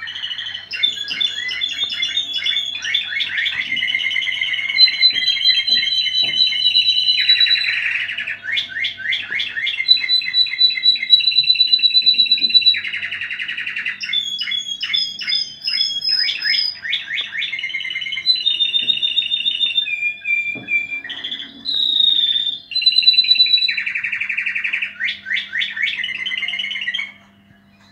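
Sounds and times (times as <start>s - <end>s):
canary singing: 0.0s - 27.9s.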